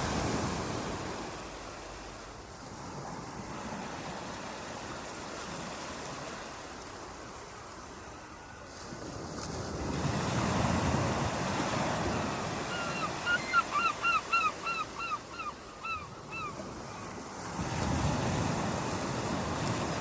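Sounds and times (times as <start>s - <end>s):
waves washing onto shore: 0.0s - 20.0s.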